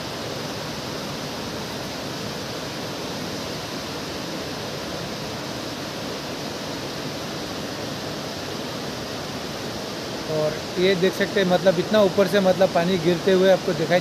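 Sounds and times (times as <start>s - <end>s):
waterfall and stream rushing over rocks: 0.0s - 14.0s.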